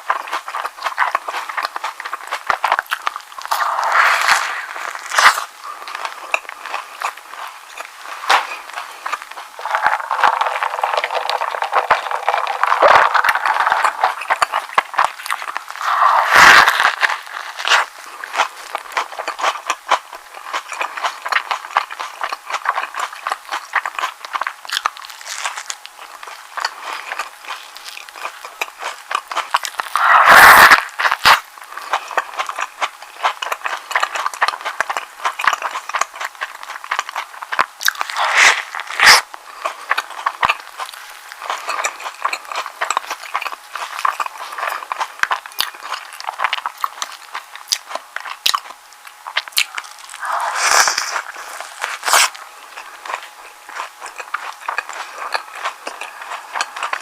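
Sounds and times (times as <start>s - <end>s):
chewing and biting sandwich: 0.0s - 57.0s.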